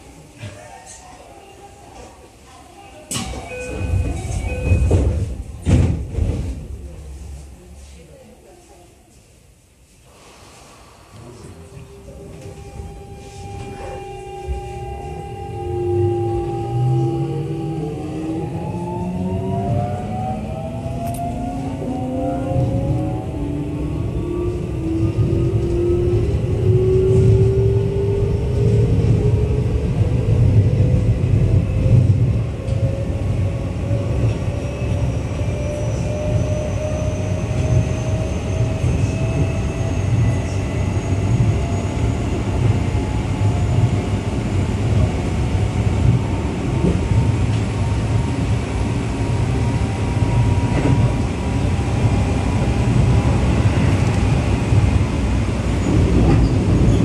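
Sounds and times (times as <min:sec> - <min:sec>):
wheels rumbling on rail: 0:10.7 - 0:57.0.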